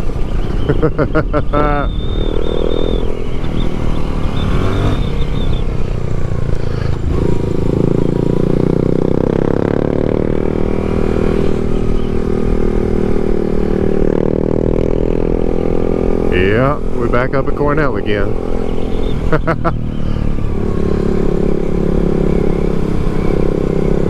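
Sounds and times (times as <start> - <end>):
gear change: 0.0 - 24.0
motorcycle engine running: 0.0 - 24.0.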